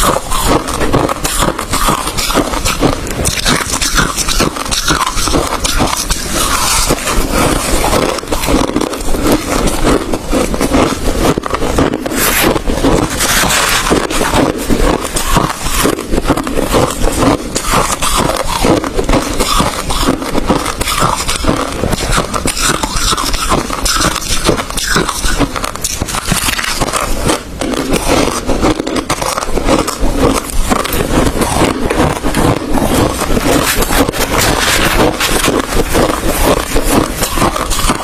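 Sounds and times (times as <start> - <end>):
crushed ice being chewed: 0.0 - 38.0.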